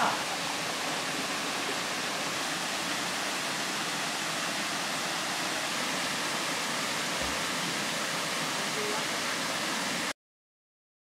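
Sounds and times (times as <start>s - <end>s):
small waterfall over rocks: 0.0s - 10.2s.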